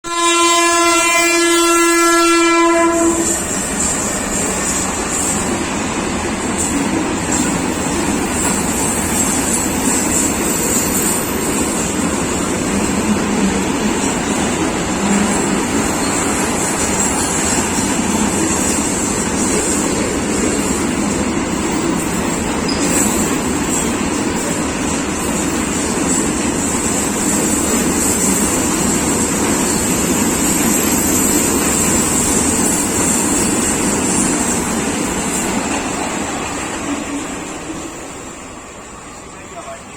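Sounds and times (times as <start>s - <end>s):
freight train rumbling and rattling: 0.0s - 39.9s.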